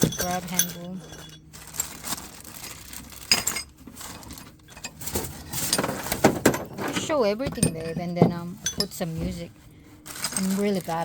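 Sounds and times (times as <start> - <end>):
metal fittings clinking: 0.0 - 9.5, 10.1 - 11.0.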